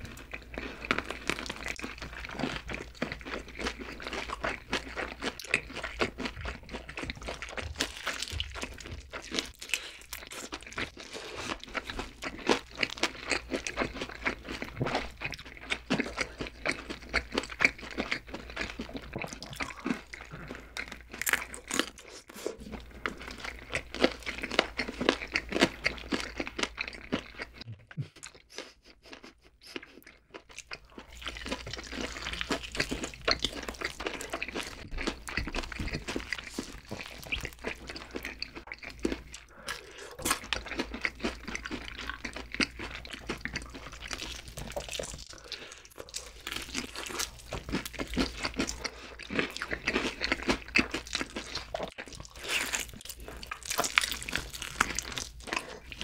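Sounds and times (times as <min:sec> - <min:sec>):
close-miked chewing fried chicken: 0:00.0 - 0:56.0.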